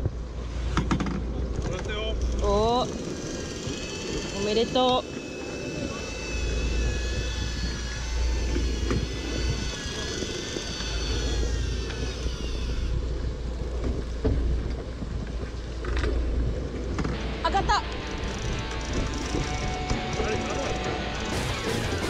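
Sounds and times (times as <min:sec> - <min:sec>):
wind rumble on microphone: 0:00.0 - 0:22.0
fishing reel motor whine: 0:01.8 - 0:22.0.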